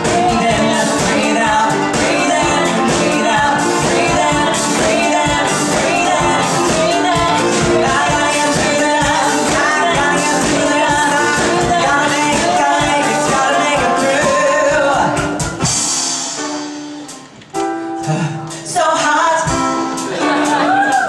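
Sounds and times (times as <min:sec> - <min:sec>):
woman singing: 0:00.0 - 0:15.3, 0:18.6 - 0:21.0
drum kit: 0:00.0 - 0:21.0.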